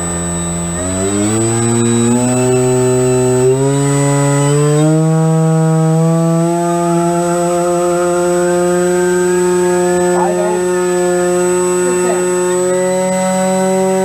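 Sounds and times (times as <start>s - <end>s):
electric motor and propeller drone: 0.0s - 14.0s.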